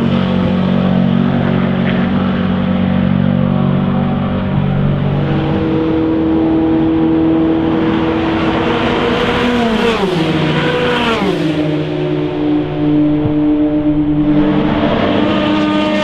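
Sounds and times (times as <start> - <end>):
race car engines: 0.0 - 16.0
race cars passing by: 0.0 - 16.0.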